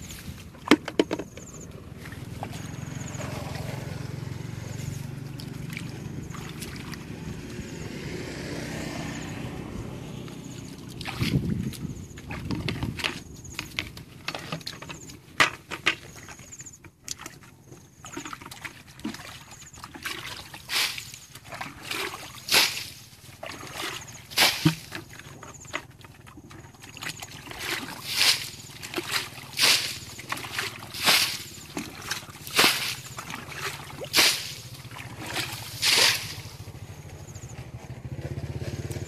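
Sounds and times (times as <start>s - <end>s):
bucket scooping water sloshing: 0.0s - 7.7s, 8.8s - 39.0s
water splashing onto bank: 0.0s - 37.2s.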